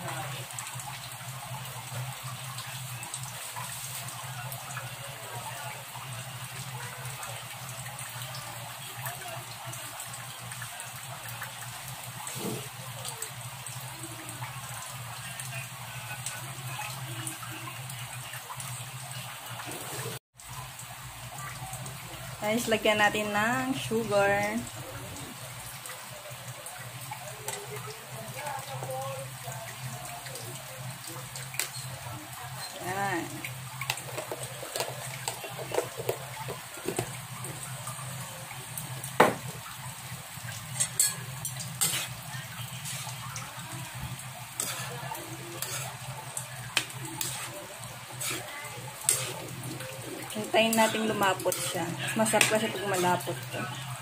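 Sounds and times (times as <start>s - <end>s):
stew bubbling in a wok: 0.0s - 54.0s.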